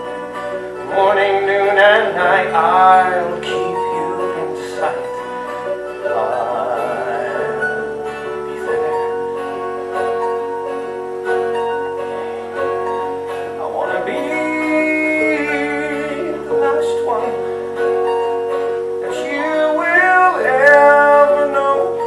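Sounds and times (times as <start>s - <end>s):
band playing sustained chords: 0.0s - 22.0s.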